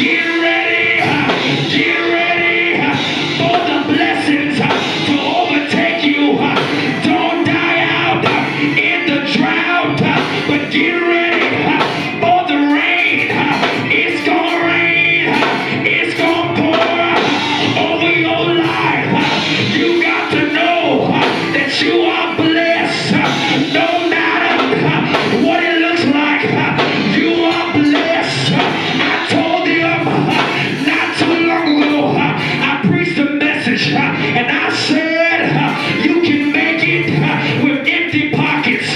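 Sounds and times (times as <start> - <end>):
live gospel music with beat: 0.0 - 38.9
voices singing: 0.0 - 38.9.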